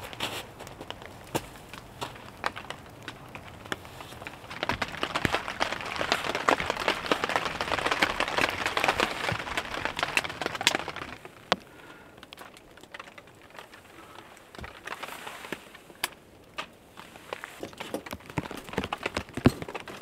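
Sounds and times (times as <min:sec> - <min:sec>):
rain pattering on tent fabric: 0:00.0 - 0:20.0
wood stove crackling: 0:00.0 - 0:20.0.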